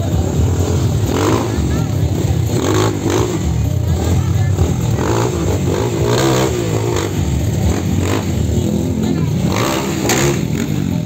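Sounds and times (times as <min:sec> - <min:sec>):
off-road vehicle engines revving: 0:00.0 - 0:11.0.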